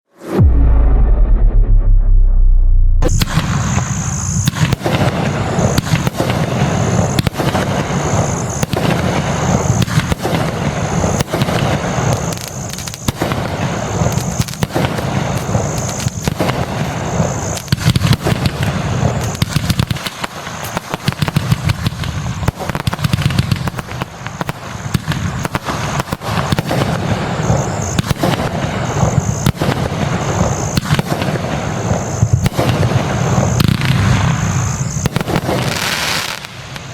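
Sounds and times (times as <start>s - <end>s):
fireworks barrage: 0.0s - 36.9s.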